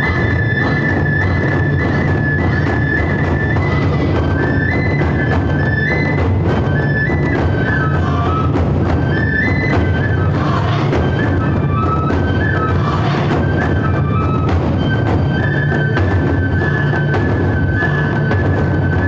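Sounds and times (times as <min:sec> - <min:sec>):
bamboo flute melody: 0:00.0 - 0:19.0
taiko drums beating: 0:00.0 - 0:19.0.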